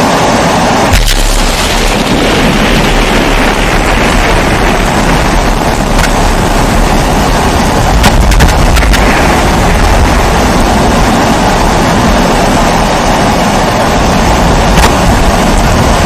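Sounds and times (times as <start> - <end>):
pressure stove burner roaring: 0.0 - 16.0.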